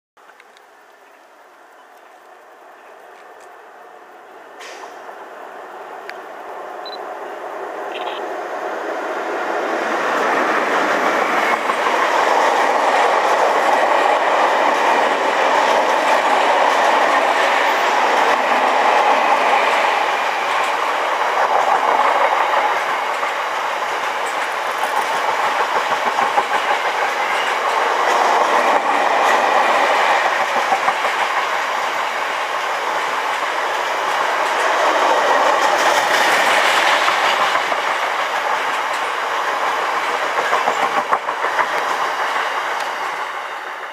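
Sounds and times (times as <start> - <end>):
diesel locomotive passing: 0.7 - 43.9.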